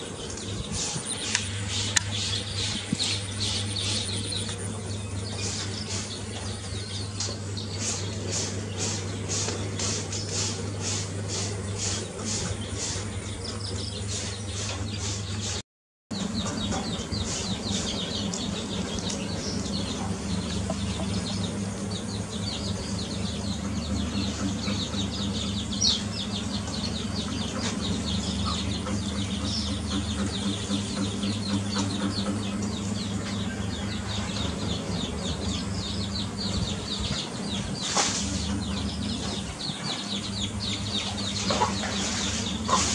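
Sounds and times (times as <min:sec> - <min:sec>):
chicks peeping: 0:00.0 - 0:15.6, 0:16.2 - 0:42.9.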